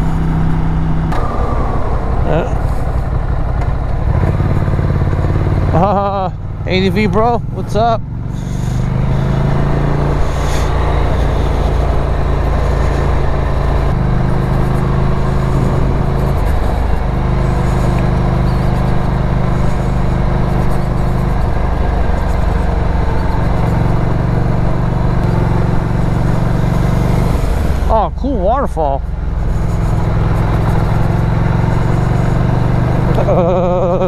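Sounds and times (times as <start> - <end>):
motorcycle engine rumbling: 0.0 - 34.0.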